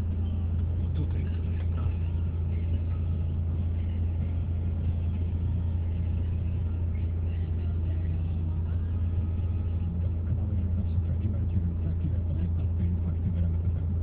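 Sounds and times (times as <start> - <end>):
car cabin drone: 0.0 - 14.0.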